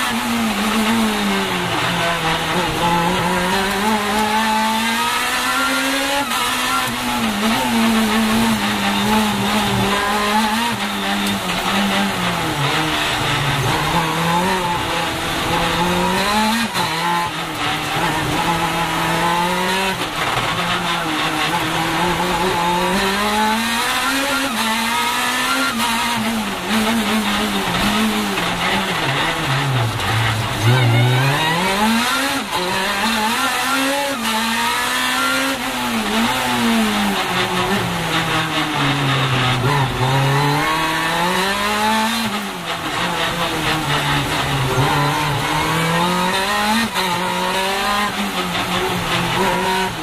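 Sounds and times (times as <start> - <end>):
race car engine revving: 0.0 - 50.0.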